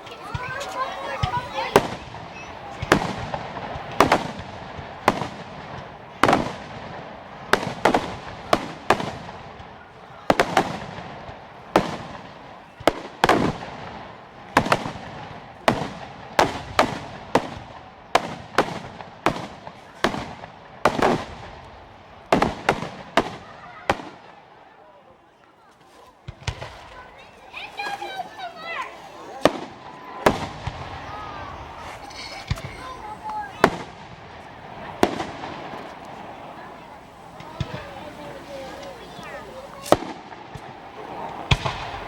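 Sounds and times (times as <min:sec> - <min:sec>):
fireworks bangs echoing: 0:00.0 - 0:42.0.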